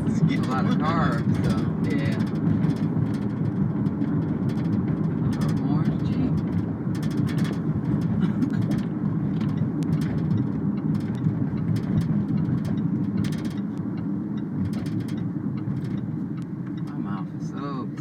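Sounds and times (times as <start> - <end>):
vehicle rumble in motion: 0.0 - 18.0
faint clicks and rattles: 0.2 - 17.3.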